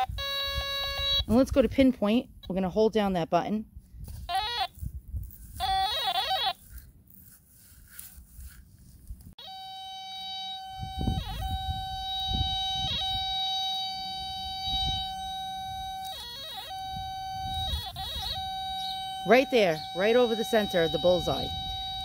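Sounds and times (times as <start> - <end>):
metal detector electronic tone: 0.0 - 2.8, 4.1 - 6.7, 9.4 - 22.0.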